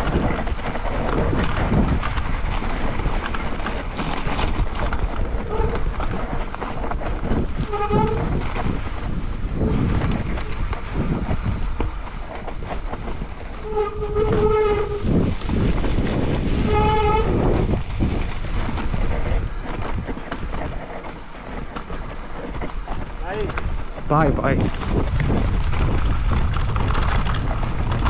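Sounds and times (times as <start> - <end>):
mountain bike rumbling and rattling: 0.0 - 28.0.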